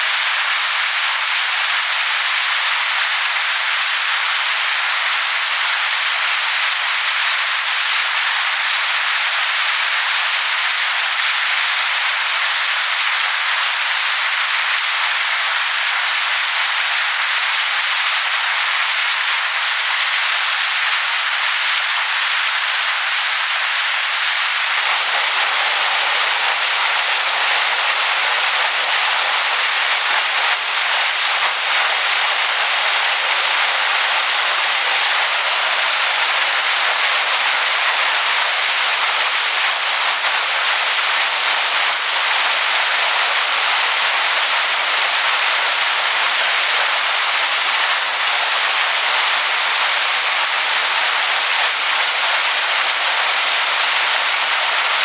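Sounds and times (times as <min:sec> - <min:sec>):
waterfall splashing onto rocks: 0:00.0 - 0:55.0.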